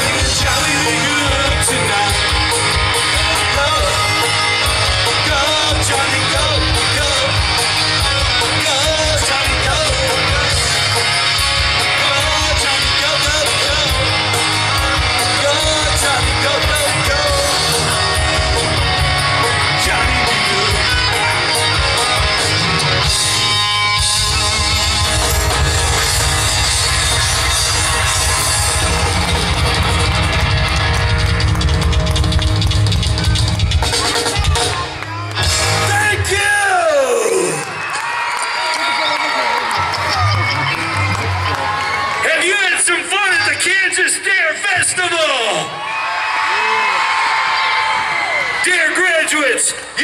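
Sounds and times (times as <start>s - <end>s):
electric guitar: 0.0s - 42.3s
rockabilly band playing: 0.0s - 45.7s.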